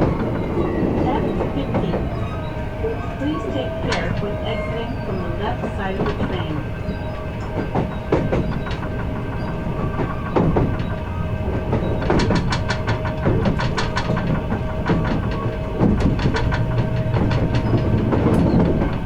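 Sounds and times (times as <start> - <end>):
electric train rumbling: 0.0 - 19.0
wheels clicking over rail joints: 0.0 - 19.0.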